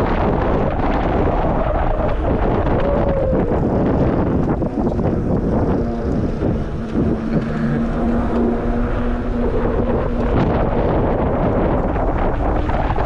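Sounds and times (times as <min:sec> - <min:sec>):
steady hum: 0:00.0 - 0:13.0
wind buffeting microphone: 0:00.0 - 0:13.0.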